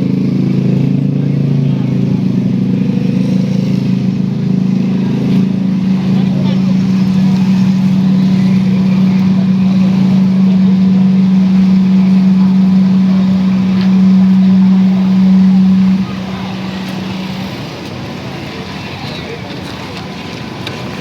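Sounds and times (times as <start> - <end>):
loud low bass tone: 0.0 - 18.6
noisy hiss: 0.0 - 21.0.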